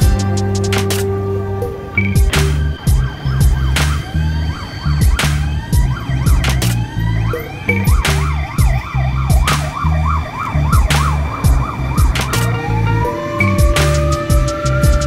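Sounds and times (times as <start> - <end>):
music with heavy bass beat: 0.0 - 15.0
rising siren wail: 0.0 - 15.0
siren yelping: 0.0 - 15.0.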